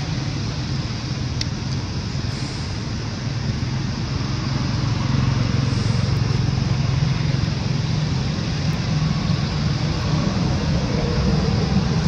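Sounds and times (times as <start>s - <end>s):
road traffic engine hum: 0.0s - 12.0s.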